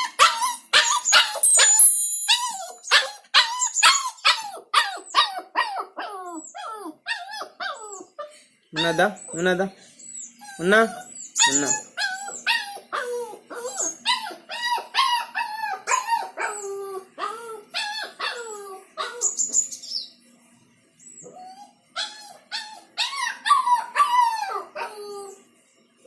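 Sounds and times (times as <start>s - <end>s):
dog whining and crying: 0.0s - 9.4s, 10.2s - 19.6s, 21.2s - 25.4s.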